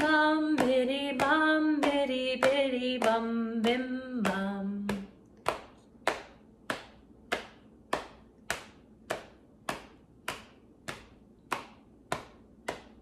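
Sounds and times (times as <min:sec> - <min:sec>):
hands patting thighs: 0:00.0 - 0:13.0.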